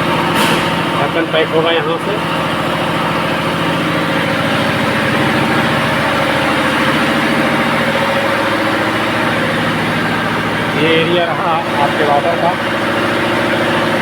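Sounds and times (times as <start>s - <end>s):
machinery running: 0.0s - 14.0s.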